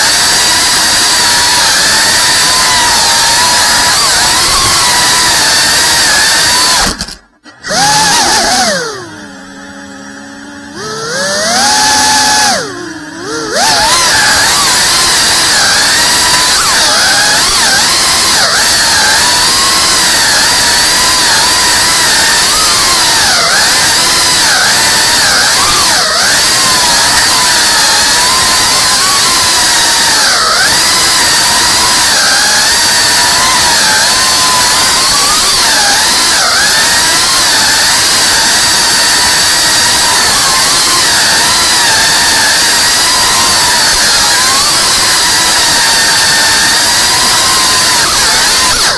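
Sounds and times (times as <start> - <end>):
drone motors whining: 0.0 - 48.9.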